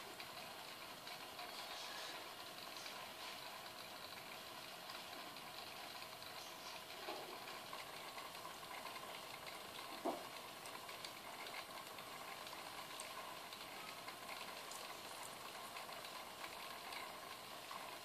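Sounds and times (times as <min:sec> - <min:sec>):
aquarium water bubbling: 0:00.0 - 0:18.0.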